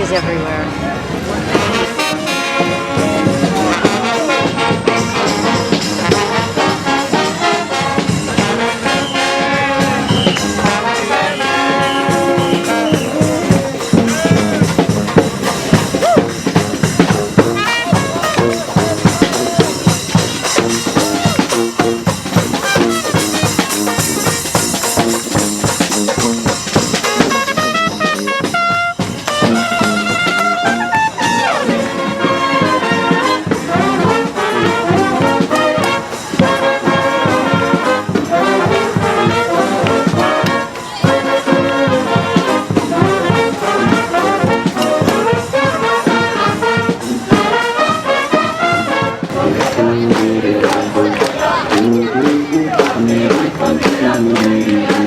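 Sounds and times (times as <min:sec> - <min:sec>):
drums: 0:00.0 - 0:55.0
trumpets and trombones: 0:00.0 - 0:55.0.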